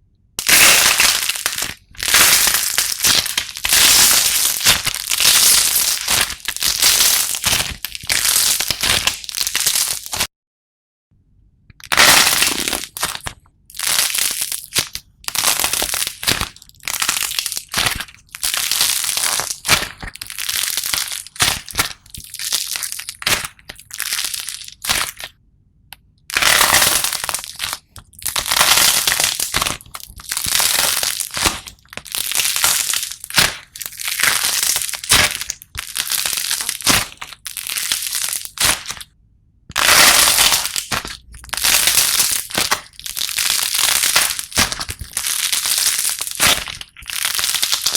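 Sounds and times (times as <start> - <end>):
slime crackling and crunching: 0.4 - 10.3, 11.8 - 25.3, 26.3 - 39.1, 39.7 - 47.9.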